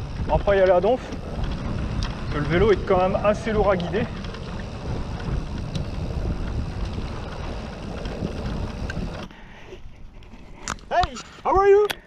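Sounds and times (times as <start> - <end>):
bike tyres rolling on dirt: 0.0 - 11.8
wind buffeting microphone: 0.0 - 11.9.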